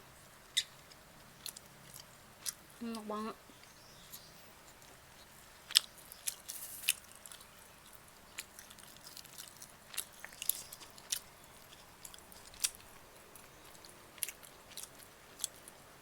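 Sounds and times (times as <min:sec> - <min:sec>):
person chewing food: 0:00.5 - 0:02.8, 0:03.6 - 0:15.9.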